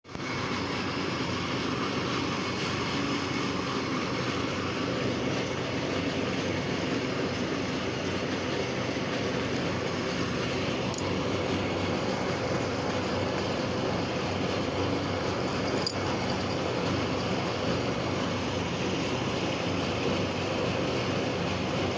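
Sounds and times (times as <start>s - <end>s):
lathe machine humming: 0.1s - 21.9s.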